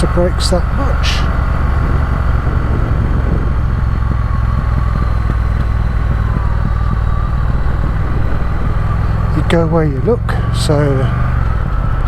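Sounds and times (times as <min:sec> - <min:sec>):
motorcycle engine running: 0:00.0 - 0:12.0
wind rush: 0:00.0 - 0:12.0.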